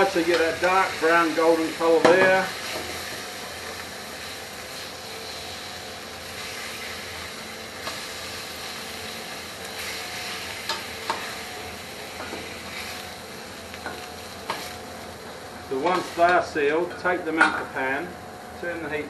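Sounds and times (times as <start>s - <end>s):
chicken sizzling in frying pan: 0.0s - 16.5s.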